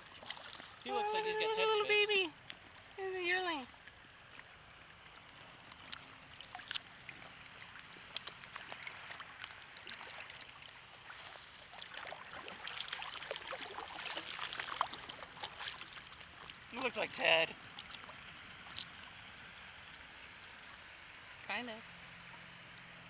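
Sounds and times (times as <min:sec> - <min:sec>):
small splashes and drips: 0:00.0 - 0:00.9, 0:01.5 - 0:21.4
river water trickling and lapping: 0:00.0 - 0:23.0.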